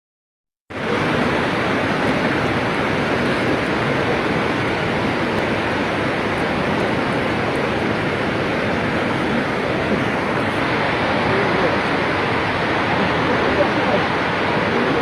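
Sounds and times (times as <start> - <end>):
heavy rain pouring: 0.7 - 15.0.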